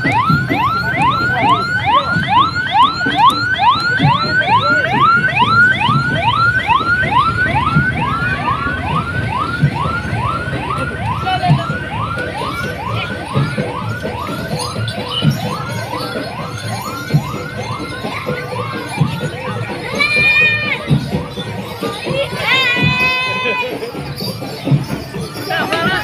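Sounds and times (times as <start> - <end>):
electronic siren whooping: 0.0 - 23.6.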